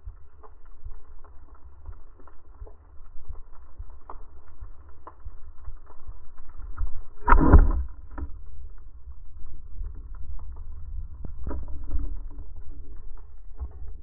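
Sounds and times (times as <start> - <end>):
low underwater rumble: 0.0 - 14.0.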